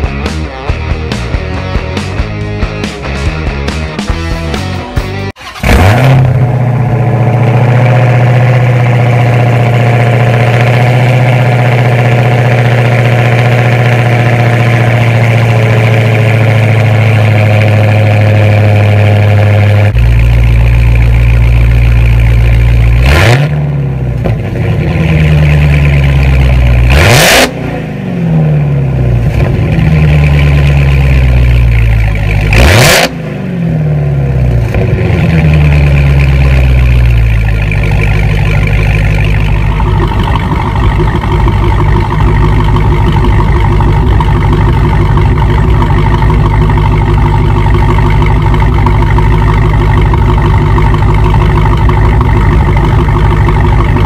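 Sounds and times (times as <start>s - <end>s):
engine revving: 0.0s - 54.0s
car engine idling loudly: 5.3s - 54.0s.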